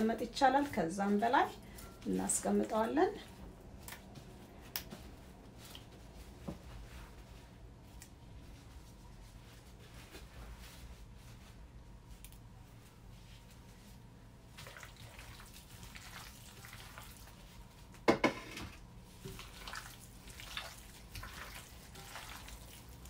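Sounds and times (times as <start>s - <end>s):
wet squelching and rustling: 2.4s - 18.0s, 18.9s - 23.0s.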